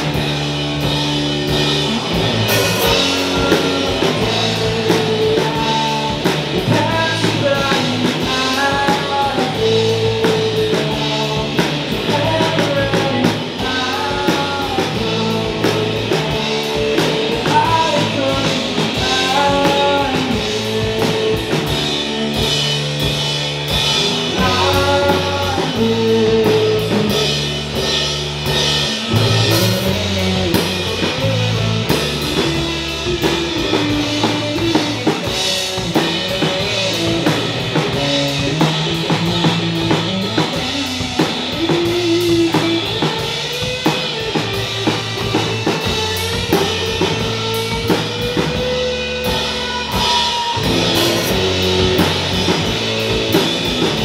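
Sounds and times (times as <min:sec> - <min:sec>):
distorted electric guitar: 0:00.0 - 0:54.0
drum kit: 0:00.0 - 0:54.0
electric bass: 0:00.0 - 0:54.0.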